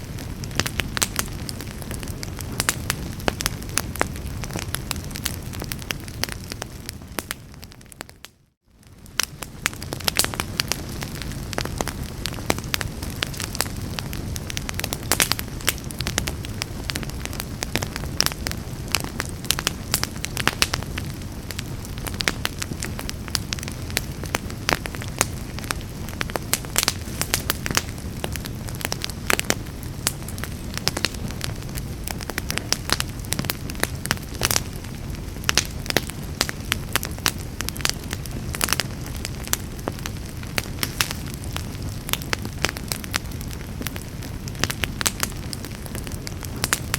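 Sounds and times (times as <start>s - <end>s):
fire crackling and popping: 0.0s - 46.9s
low rumble of flame: 0.0s - 46.9s.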